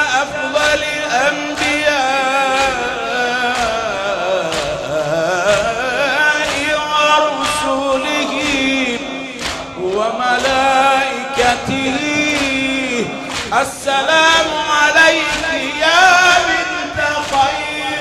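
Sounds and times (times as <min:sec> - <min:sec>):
man singing a lament: 0:00.0 - 0:18.0
sharp beats: 0:02.5 - 0:18.0.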